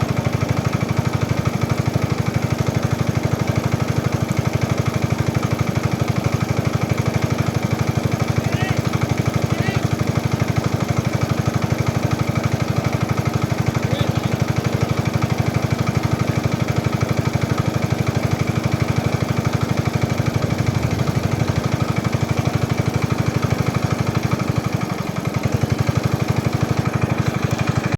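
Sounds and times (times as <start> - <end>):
engine running with thudding beat: 0.0 - 27.9.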